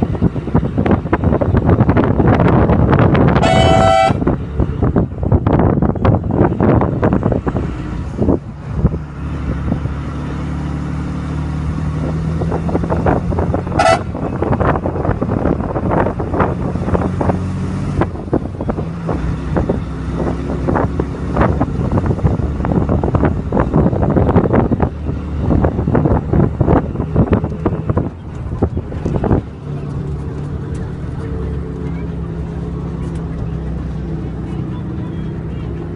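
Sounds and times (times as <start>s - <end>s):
bus body rattling: 0.0s - 35.9s
bus engine humming: 0.0s - 35.9s.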